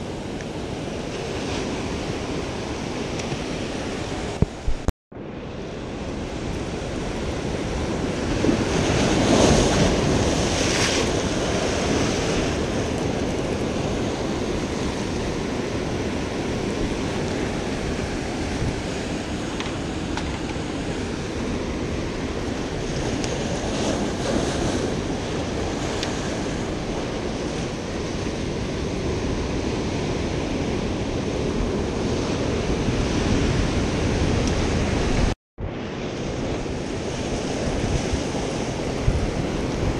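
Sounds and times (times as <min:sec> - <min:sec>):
ocean surf breaking over rocks: 0:00.0 - 0:39.9
wind buffeting microphone: 0:05.6 - 0:39.9.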